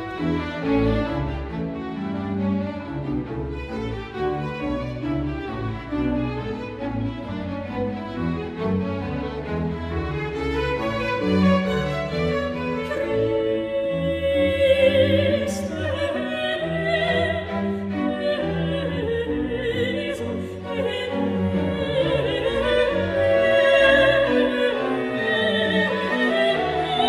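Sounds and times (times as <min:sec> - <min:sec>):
bowed strings: 0:00.0 - 0:27.0.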